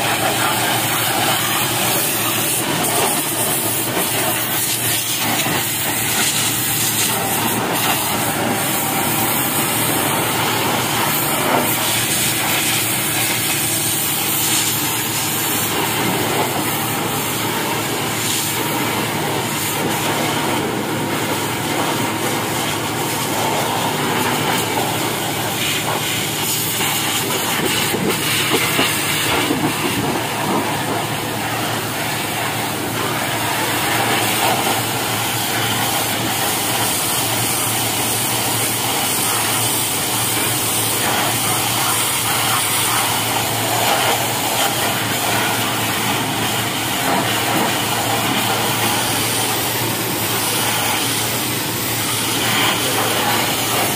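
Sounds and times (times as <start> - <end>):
pressure washer spraying metal: 0.0 - 53.9.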